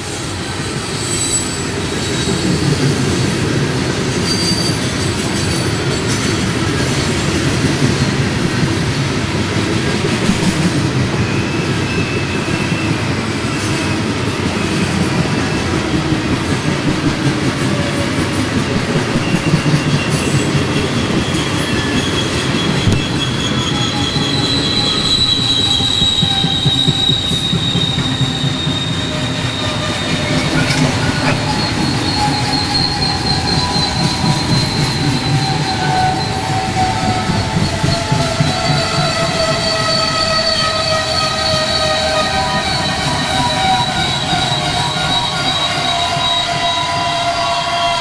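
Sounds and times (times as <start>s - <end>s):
train wheels rumbling: 0.0s - 48.0s
high thin wheel squeal: 0.6s - 2.7s, 4.1s - 7.0s, 10.2s - 48.0s.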